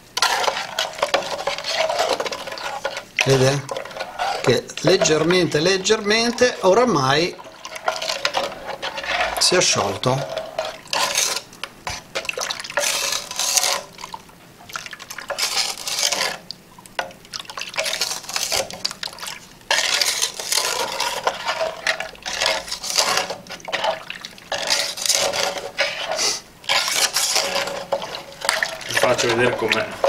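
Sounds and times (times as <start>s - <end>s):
utensil stirring and scraping pot: 0.0s - 30.0s.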